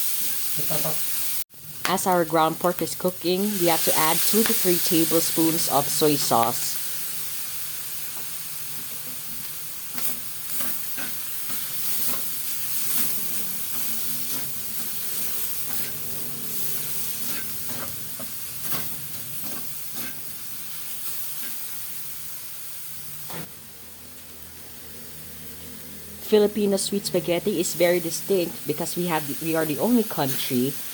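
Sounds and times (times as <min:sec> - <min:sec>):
meat sizzling in a pan: 0:00.0 - 0:23.5, 0:27.7 - 0:30.9.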